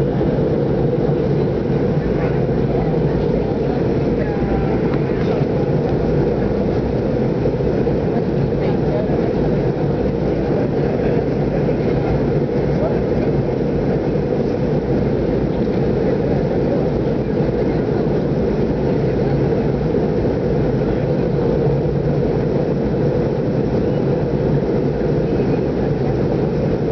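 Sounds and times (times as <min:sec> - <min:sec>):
faint constant hum: 0:00.0 - 0:26.9
jet airliner cabin noise: 0:00.0 - 0:26.9.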